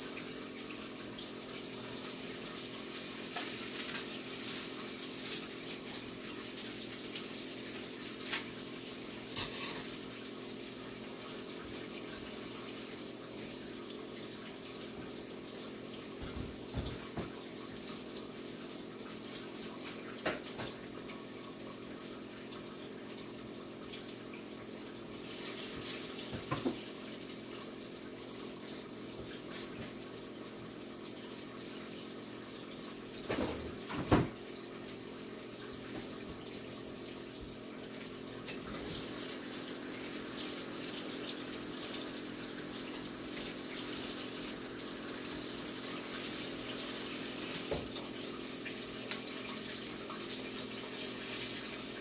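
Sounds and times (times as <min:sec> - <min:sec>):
fish sizzling in deep fryer: 0:00.0 - 0:52.0.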